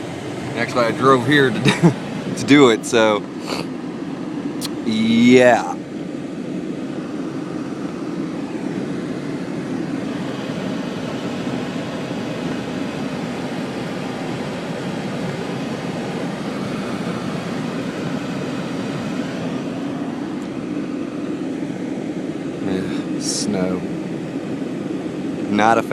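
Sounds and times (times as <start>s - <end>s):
car low rumble with hiss: 0.0s - 25.9s.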